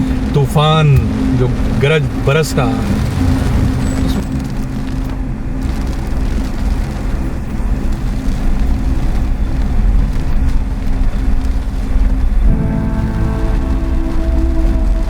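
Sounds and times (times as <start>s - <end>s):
car engine and road noise: 0.0s - 15.0s
rain and storm: 0.0s - 15.0s.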